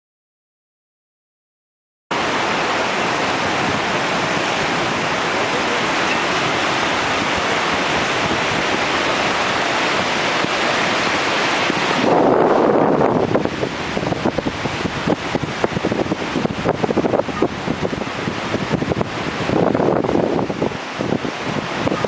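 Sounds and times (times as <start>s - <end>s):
surf breaking on beach: 2.1s - 22.0s.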